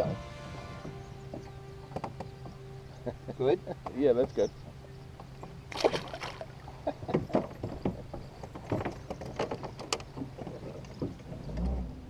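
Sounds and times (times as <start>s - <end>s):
knocks and clicks of gear: 0.8s - 6.3s, 7.0s - 12.0s.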